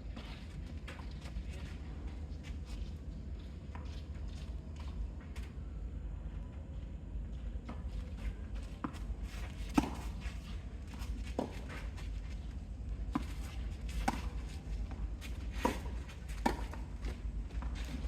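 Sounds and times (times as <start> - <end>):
footsteps on court: 0.0 - 5.6, 6.7 - 18.0.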